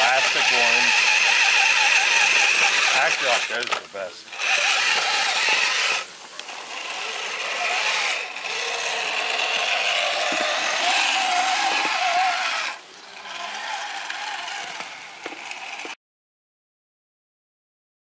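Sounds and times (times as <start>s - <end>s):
toy car motor whining: 0.0s - 16.0s.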